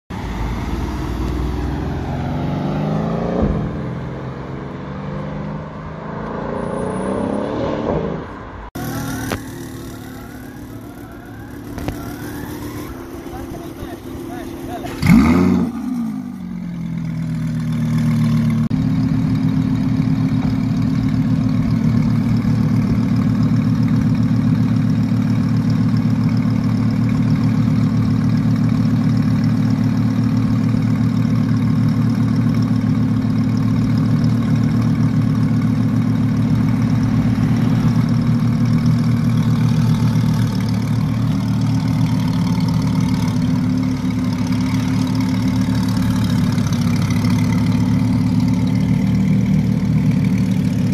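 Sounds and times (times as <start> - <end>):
car engine idling: 8.5 - 50.9.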